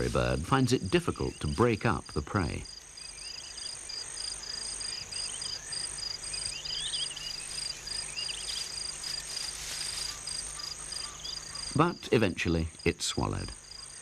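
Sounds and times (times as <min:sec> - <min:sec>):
insects calling in pulsing rhythm: 0:00.0 - 0:14.0.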